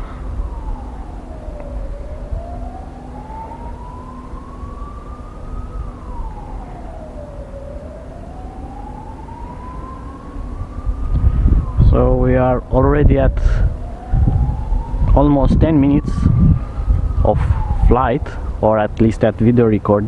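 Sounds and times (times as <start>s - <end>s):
low rumbling noise: 0.0s - 20.0s
siren wailing: 0.0s - 20.0s.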